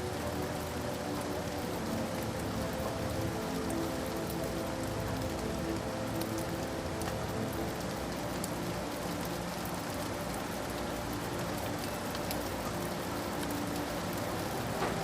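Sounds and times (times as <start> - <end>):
rain drops tapping on a surface: 0.0 - 15.0.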